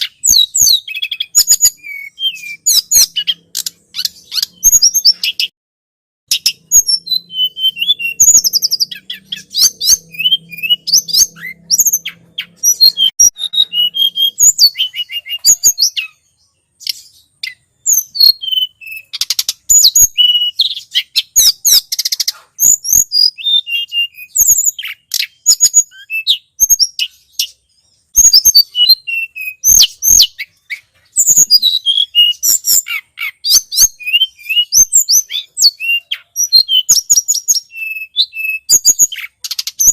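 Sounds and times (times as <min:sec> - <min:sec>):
bird chirping and whistling: 0:00.0 - 0:05.5, 0:06.3 - 0:39.9.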